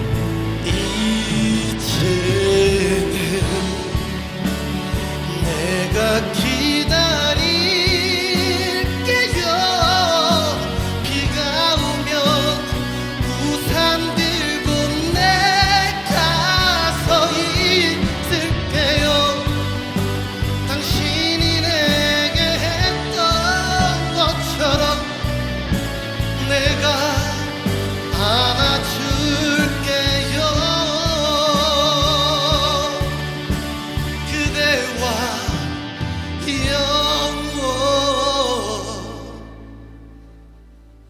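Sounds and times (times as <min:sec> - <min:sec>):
steady bass and drum beat: 0:00.0 - 0:37.5
live band accompaniment: 0:00.0 - 0:40.3
man singing a ballad with vibrato: 0:00.0 - 0:40.9.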